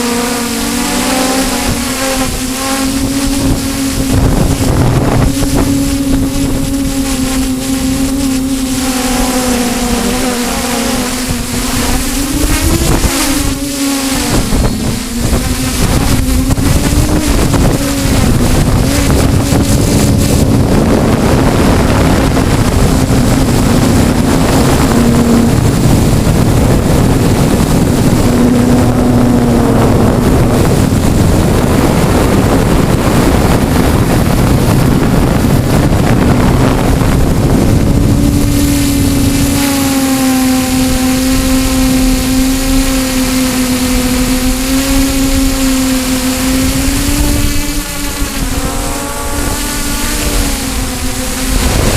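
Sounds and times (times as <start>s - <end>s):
small motor humming: 0.0s - 51.9s
wind rumble on microphone: 0.0s - 51.9s.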